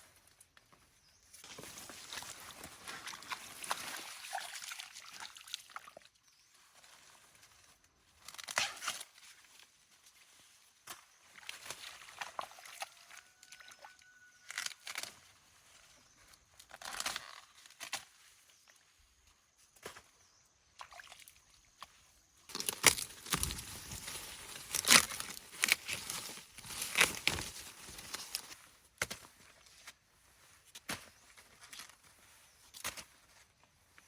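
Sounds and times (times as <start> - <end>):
rustling and crunching handling noise: 0.0 - 5.3, 6.1 - 20.6, 21.6 - 34.0.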